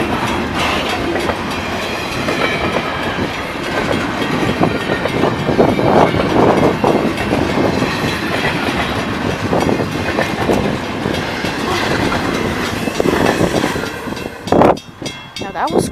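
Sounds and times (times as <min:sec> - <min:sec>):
freight train wheels rumbling on rails: 0:00.0 - 0:15.9.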